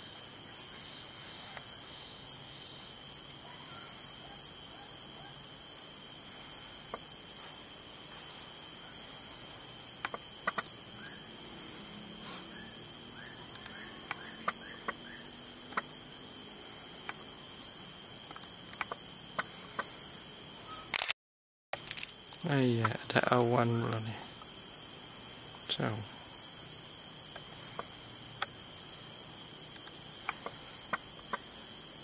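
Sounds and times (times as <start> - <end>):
crickets chirring: 0.0 - 21.0, 21.8 - 32.0.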